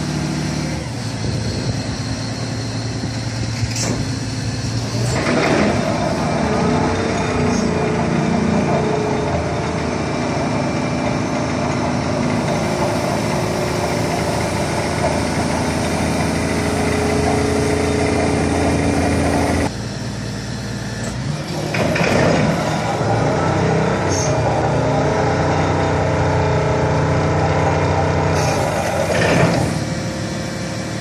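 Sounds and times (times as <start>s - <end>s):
excavator diesel engine running: 0.0s - 31.0s
hydraulics whine: 0.0s - 31.0s.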